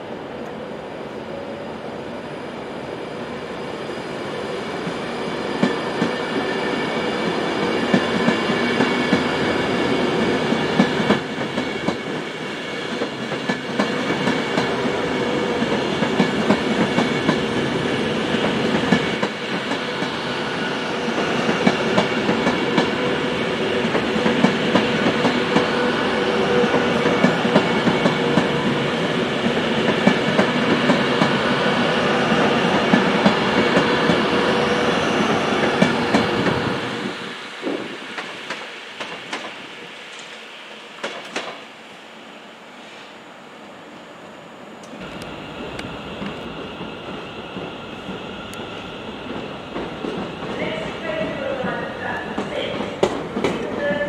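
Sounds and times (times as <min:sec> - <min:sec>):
train running hum: 0:00.0 - 0:54.0
train wheels clicking on rails: 0:04.8 - 0:41.7, 0:44.8 - 0:54.0.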